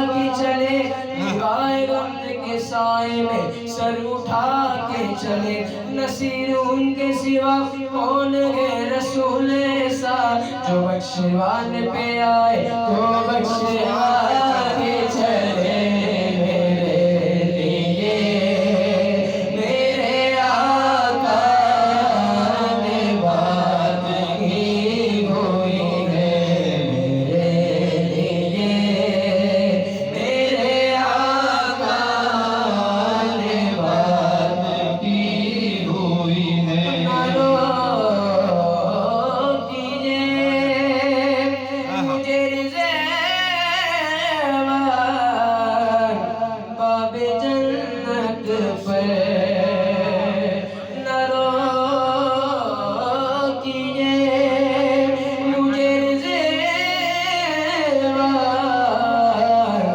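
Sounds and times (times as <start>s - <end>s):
man chanting devotional melody: 0.0s - 59.9s.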